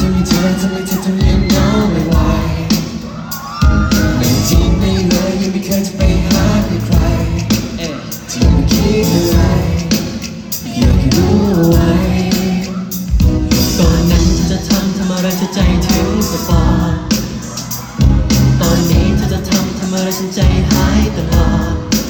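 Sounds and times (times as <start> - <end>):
man singing: 0.0 - 22.0
strong bass beat: 0.0 - 22.0.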